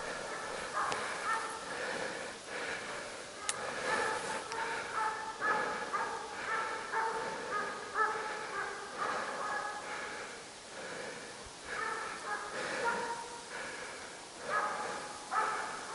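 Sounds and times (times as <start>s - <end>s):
hounds baying: 0.0s - 15.9s.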